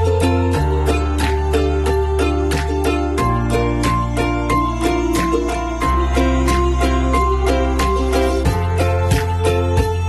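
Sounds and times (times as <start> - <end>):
held bass line: 0.0 - 10.0.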